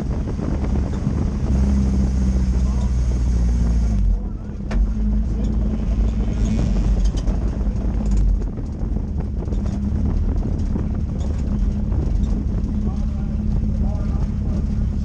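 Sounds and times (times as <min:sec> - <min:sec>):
race car engine rumbling: 0:00.0 - 0:15.0.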